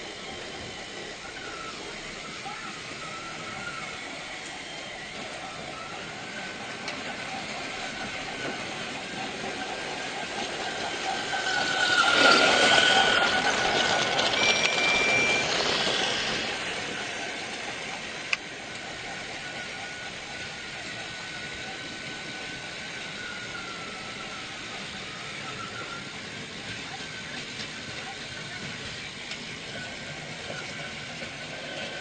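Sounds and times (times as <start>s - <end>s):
toy train whining on track: 0.0s - 32.0s.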